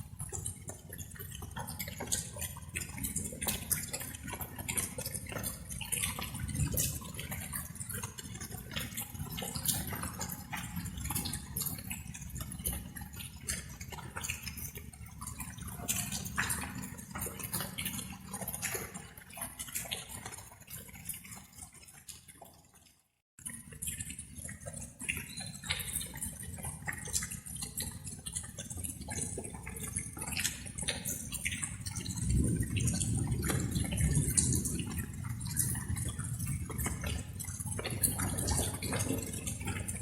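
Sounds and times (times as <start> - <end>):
light rain pattering: 0.0 - 22.8, 23.4 - 40.0.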